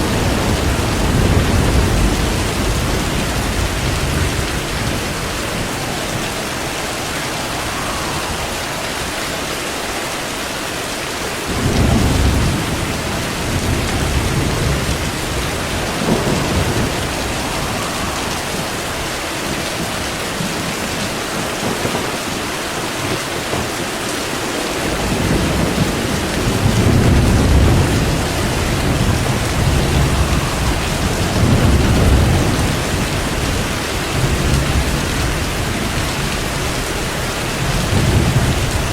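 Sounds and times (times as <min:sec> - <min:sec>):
rolling thunder: 0:00.0 - 0:10.6, 0:11.4 - 0:38.9
steady rain falling: 0:00.0 - 0:38.9.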